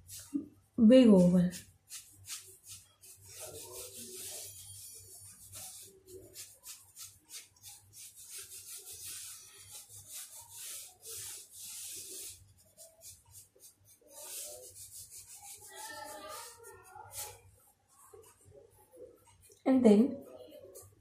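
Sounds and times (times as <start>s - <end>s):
pencil scratching on paper: 1.1s - 19.5s.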